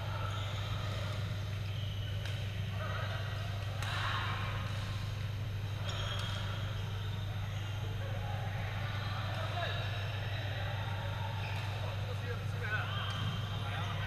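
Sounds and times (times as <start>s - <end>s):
muffled voices: 0.0s - 14.0s
steady low hum: 0.0s - 14.0s.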